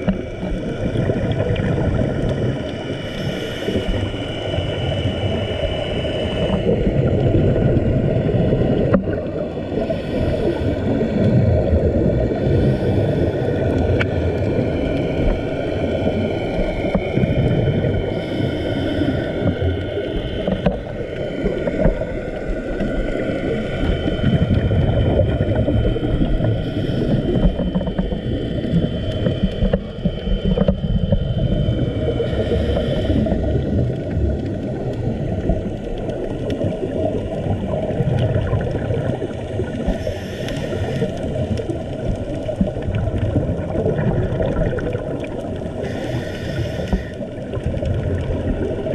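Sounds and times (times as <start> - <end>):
exhaled bubbles hissing: 0.0 - 48.9
faint wavering whine: 0.0 - 48.9
low underwater rumble: 0.0 - 48.9.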